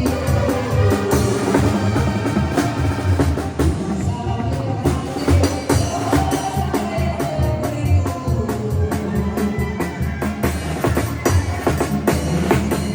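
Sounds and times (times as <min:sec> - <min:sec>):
heavy bass line: 0:00.0 - 0:12.9
live band music: 0:00.0 - 0:12.9
steady drum beat: 0:00.0 - 0:12.9.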